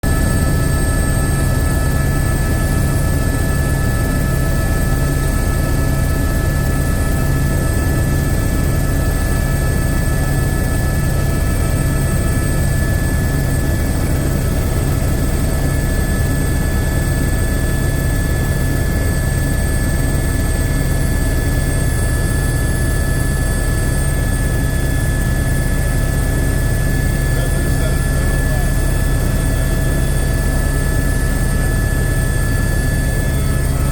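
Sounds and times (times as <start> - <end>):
helicopter rotor and engine drone: 0.0 - 33.9.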